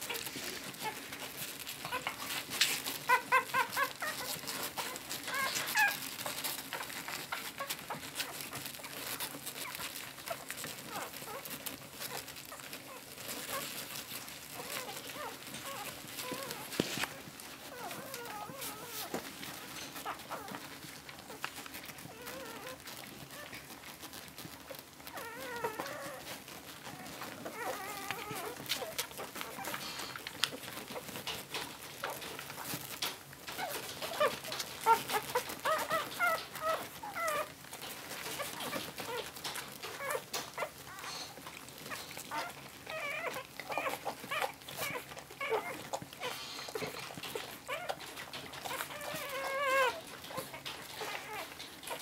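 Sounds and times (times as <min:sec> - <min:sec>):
puppies squeaking: 0:00.0 - 0:52.0.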